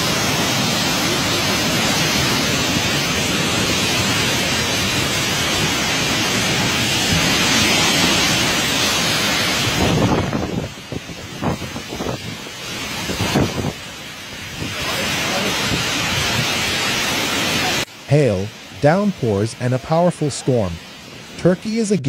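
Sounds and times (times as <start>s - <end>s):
wind gusts on microphone: 0.0s - 17.8s
heavy rain: 0.0s - 22.0s.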